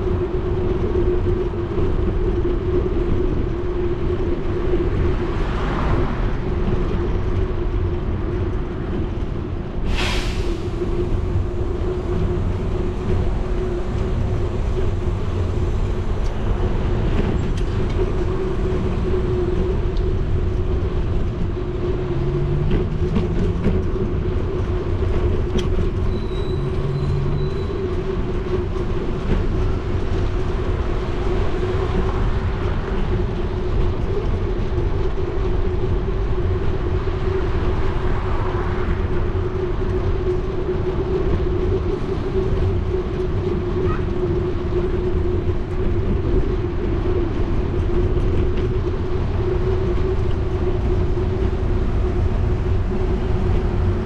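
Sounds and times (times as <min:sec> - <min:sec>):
bicycle tyre and road noise: 0:00.0 - 0:54.0
constant low hum: 0:00.0 - 0:54.0.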